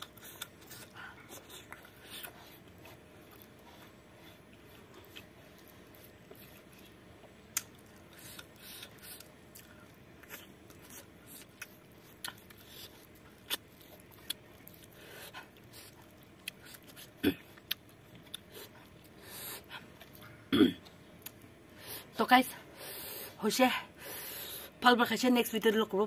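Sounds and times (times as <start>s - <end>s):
mouth smacks of chewing: 0.0s - 21.4s.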